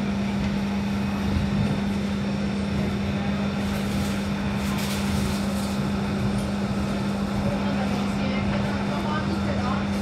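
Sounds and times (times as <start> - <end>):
tram running hum: 0.0 - 10.0.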